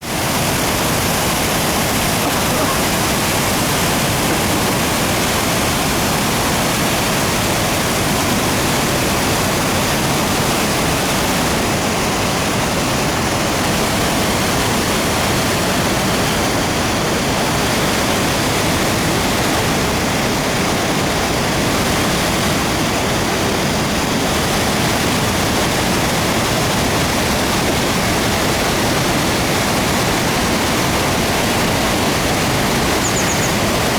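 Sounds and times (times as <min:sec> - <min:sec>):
large waterfall roaring: 0:00.0 - 0:33.9.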